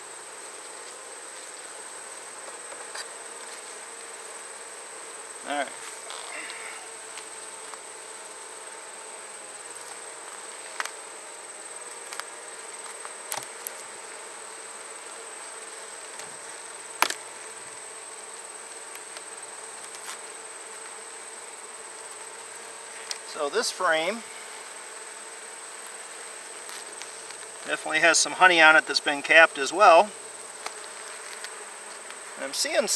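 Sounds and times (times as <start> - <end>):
bees humming: 0.0 - 32.9.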